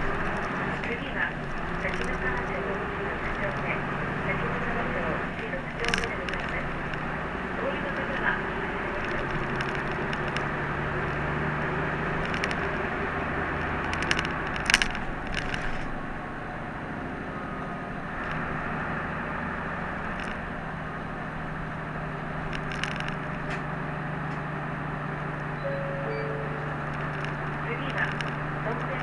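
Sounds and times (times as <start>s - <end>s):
sharp clicks and rattles: 0.0s - 16.7s, 18.0s - 24.5s, 25.2s - 29.0s
bus engine hum: 0.0s - 29.0s
road noise: 0.0s - 29.0s.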